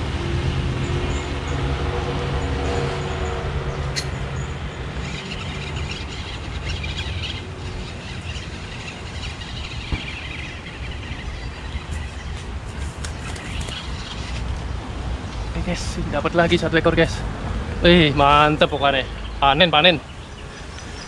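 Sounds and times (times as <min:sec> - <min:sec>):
birds chirping: 0:00.6 - 0:21.0.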